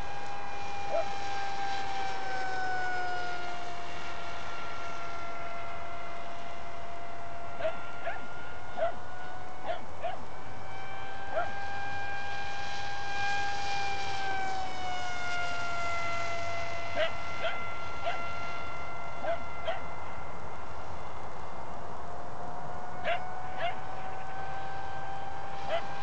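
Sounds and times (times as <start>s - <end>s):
electric propeller whining: 0.0s - 26.0s.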